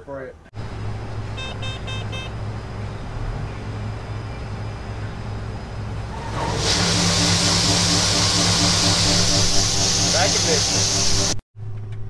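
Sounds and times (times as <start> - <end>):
auger rushing hiss and hum: 0.6 - 11.4
combine engine running: 0.6 - 11.4.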